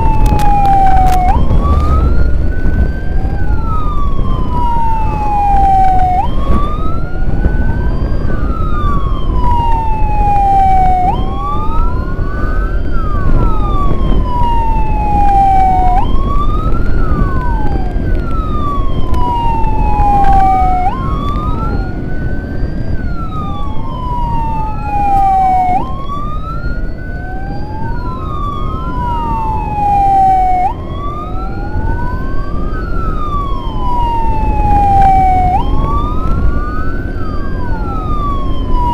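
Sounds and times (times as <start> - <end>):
electronic sirens wailing: 0.0 - 38.9
low rumble of road noise: 0.0 - 38.9
wind noise: 0.0 - 38.9.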